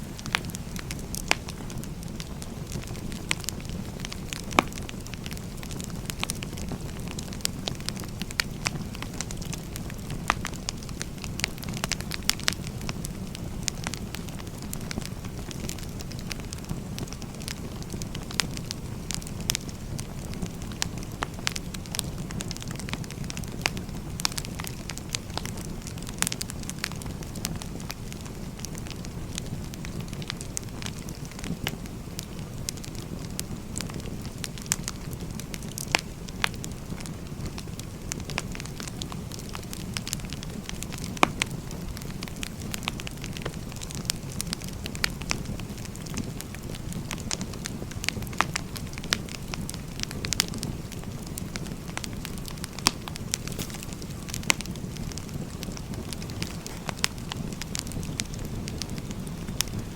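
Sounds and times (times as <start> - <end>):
firewood burning crackling: 0.0 - 59.9.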